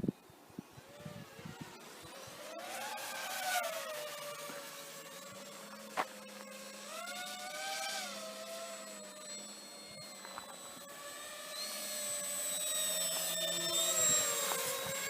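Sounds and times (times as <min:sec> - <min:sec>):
model aircraft motor whine: 0:00.0 - 0:15.0.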